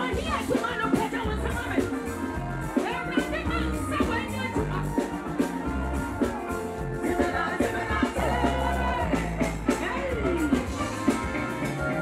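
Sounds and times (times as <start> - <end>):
woman singing into a microphone: 0.0 - 5.5, 6.8 - 12.0
live gospel band music: 0.0 - 12.0.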